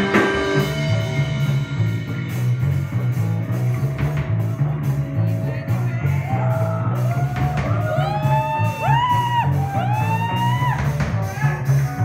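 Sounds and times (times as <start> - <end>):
drum kit groove: 0.0 - 12.0
electric bass: 0.0 - 12.0.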